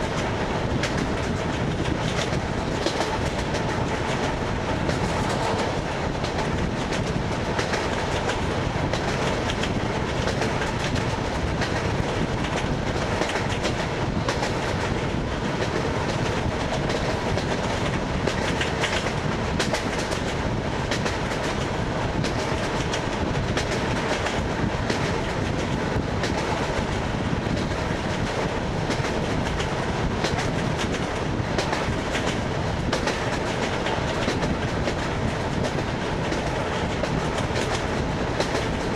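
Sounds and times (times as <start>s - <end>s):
train rolling rumble: 0.0s - 38.9s
train wheels clattering over rail joints: 0.0s - 38.9s.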